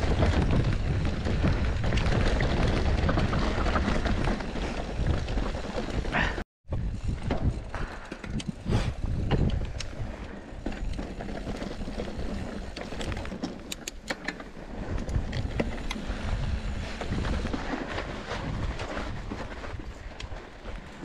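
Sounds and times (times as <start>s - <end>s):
bike clicks and rattles: 0.0s - 21.0s
bike tyres on dirt and stone: 0.0s - 21.0s.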